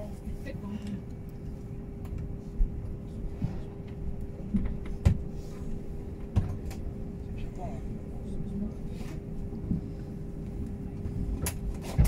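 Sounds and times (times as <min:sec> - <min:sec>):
jet engine hum and rumble: 0:00.0 - 0:12.0.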